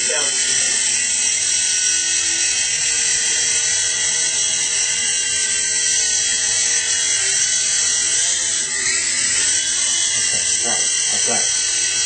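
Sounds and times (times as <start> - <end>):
toy helicopter rotors whirring: 0.0 - 12.0.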